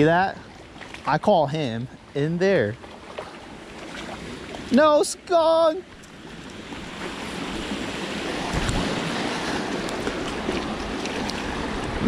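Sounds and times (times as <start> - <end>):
stream water over rocks: 0.0 - 12.0.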